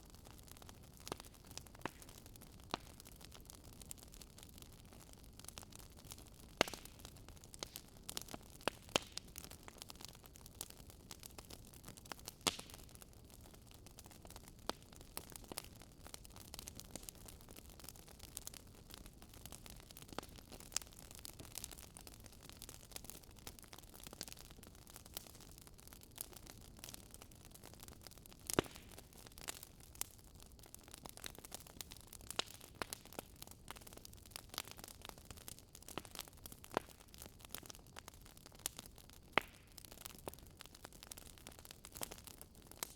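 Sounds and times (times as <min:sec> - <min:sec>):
fire popping: 0:00.0 - 0:42.9
wood fire crackling: 0:00.0 - 0:42.9.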